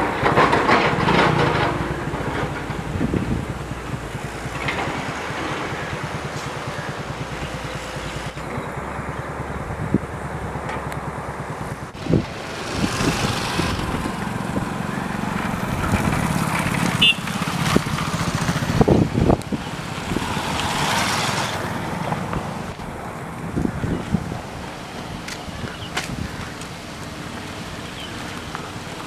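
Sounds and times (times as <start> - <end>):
diesel locomotive engine running: 0.0 - 29.0
wind buffeting microphone: 0.0 - 29.0.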